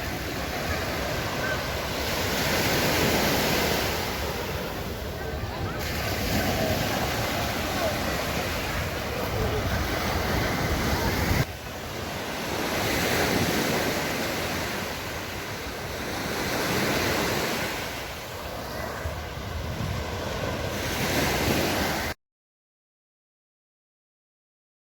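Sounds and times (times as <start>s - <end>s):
wind buffeting microphone: 0.0s - 16.0s, 17.4s - 22.1s
sea waves breaking on beach: 0.0s - 22.2s.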